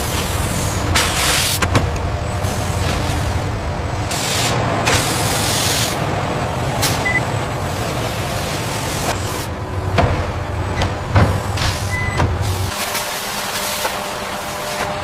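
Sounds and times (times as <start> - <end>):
machinery rumble: 0.0 - 13.2.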